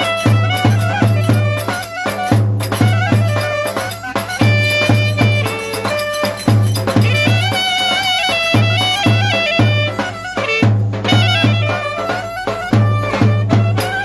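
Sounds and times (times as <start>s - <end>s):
bass drum beat: 0.0s - 14.0s
reedy wind instrument melody: 0.0s - 14.0s.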